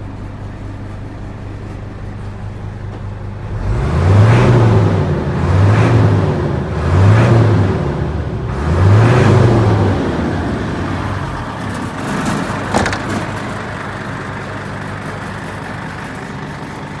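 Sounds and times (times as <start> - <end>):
diesel truck engine revving and idling: 0.0 - 17.0.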